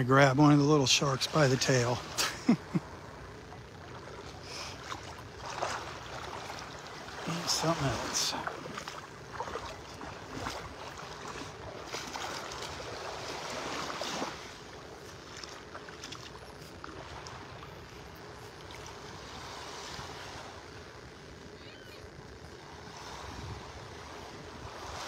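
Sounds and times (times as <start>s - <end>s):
small waves lapping shore: 0.0s - 25.0s.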